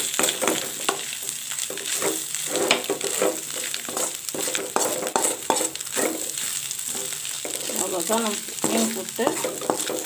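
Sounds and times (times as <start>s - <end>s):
oil sizzling: 0.0s - 10.0s
metal spatula scraping pan: 0.2s - 10.0s.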